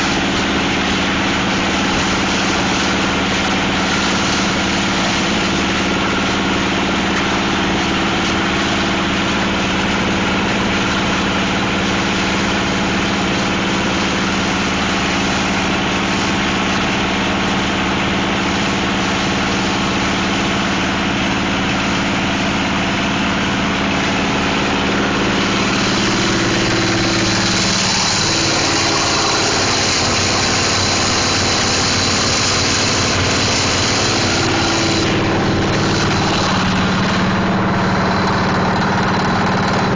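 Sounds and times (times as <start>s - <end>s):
plastic crusher machine running: 0.0s - 39.9s.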